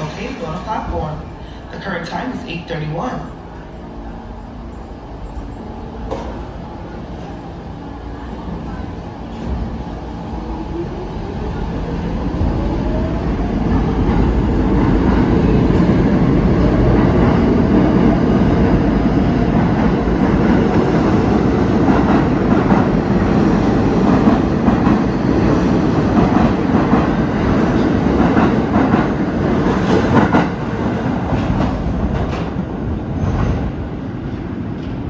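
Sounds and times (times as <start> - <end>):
train wheels on rail: 5.2 - 35.0.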